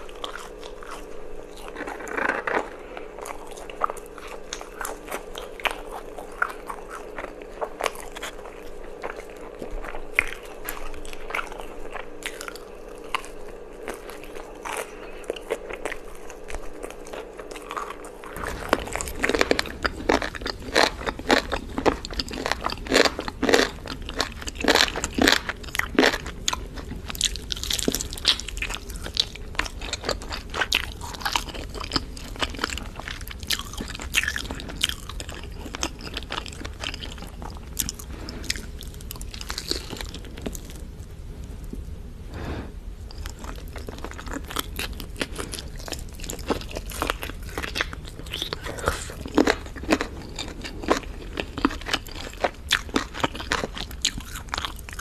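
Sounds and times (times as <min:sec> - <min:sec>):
fried chicken crunching: 0:00.0 - 0:40.8, 0:43.1 - 0:55.0
faint hum: 0:00.0 - 0:55.0.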